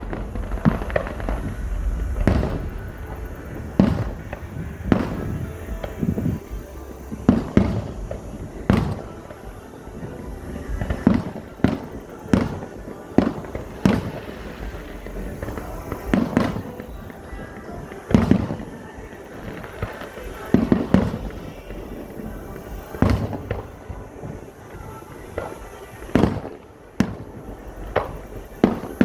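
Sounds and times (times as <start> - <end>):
fireworks booming: 0.0 - 29.0.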